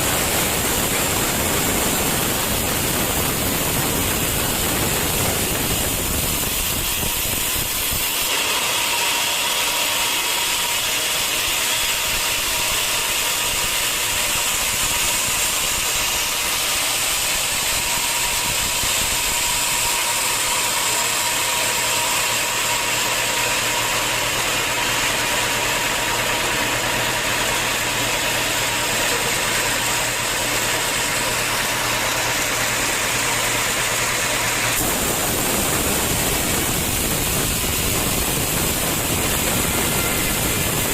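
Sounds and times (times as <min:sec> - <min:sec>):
saw cutting wood: 0:00.0 - 0:40.9.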